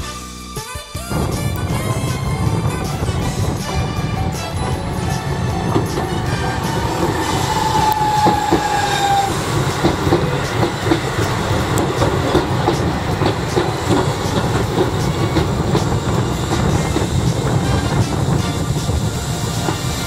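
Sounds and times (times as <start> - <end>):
train rumble: 1.0 - 20.0
high whine: 1.1 - 20.0
train wheels clacking on rails: 1.1 - 20.0.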